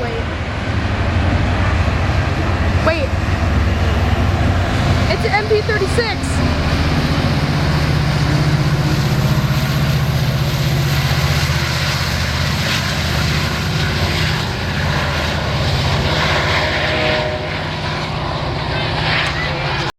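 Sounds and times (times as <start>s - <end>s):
diesel locomotive engine droning: 0.0s - 19.9s.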